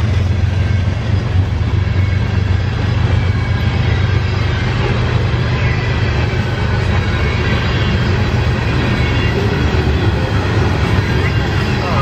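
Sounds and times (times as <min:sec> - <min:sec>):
freight train wheels rumbling on rail: 0:00.0 - 0:12.0.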